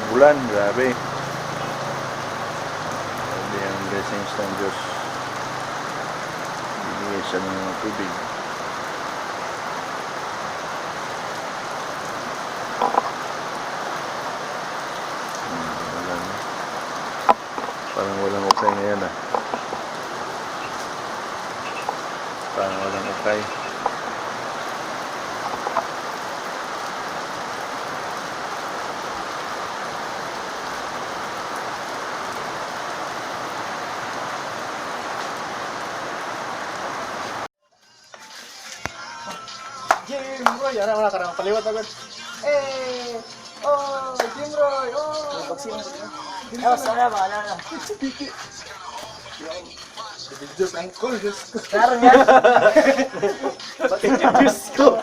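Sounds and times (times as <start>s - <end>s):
heavy rain: 0.0s - 37.5s, 38.2s - 55.0s.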